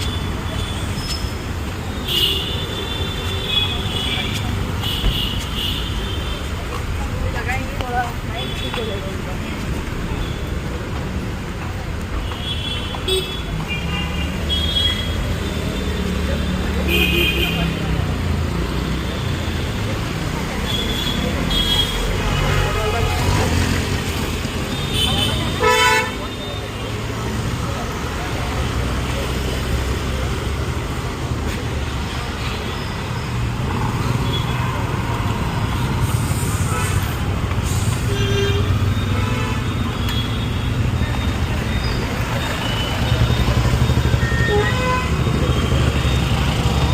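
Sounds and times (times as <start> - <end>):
city street traffic: 0.0 - 46.9.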